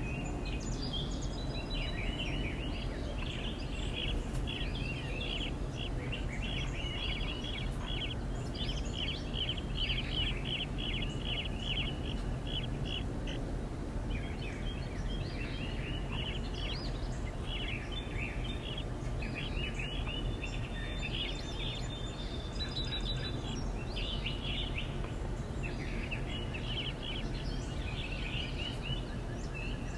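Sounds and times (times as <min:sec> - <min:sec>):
low background rumble: 0:00.0 - 0:29.9
songbirds chirping: 0:00.0 - 0:29.9.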